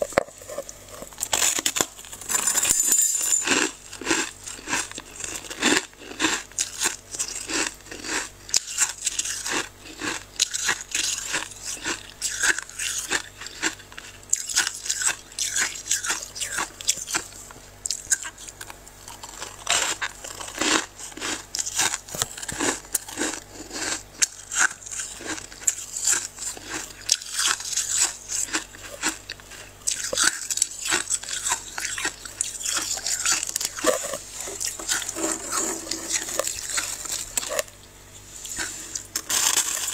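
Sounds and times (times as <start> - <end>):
freezer frost crunching: 0.0 - 39.9.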